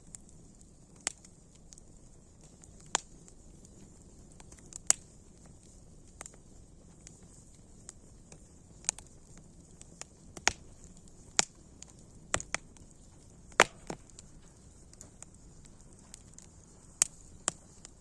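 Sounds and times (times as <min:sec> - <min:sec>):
faint steady hiss: 0:00.0 - 0:18.0
sharp pops of fire: 0:00.0 - 0:18.0
wood fire crackling: 0:00.0 - 0:18.0.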